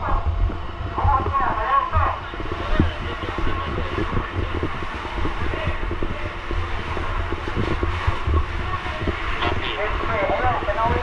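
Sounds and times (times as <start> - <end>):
knocks and crackles: 0.1 - 11.0.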